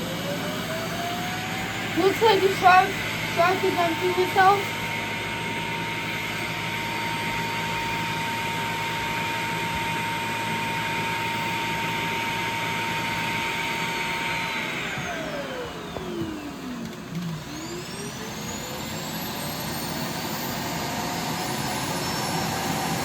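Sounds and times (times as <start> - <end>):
vacuum suction motor rush and whine: 0.0 - 23.0.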